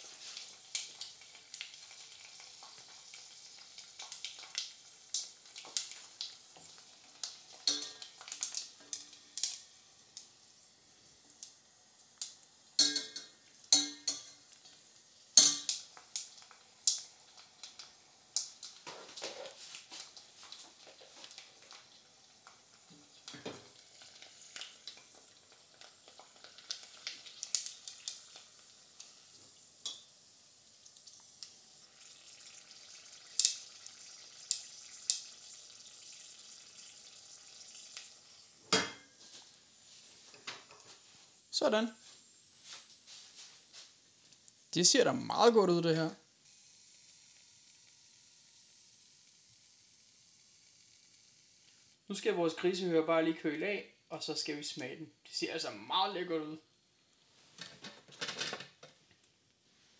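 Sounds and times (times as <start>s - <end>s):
deep-frying sizzle with pops: 0.0s - 59.9s.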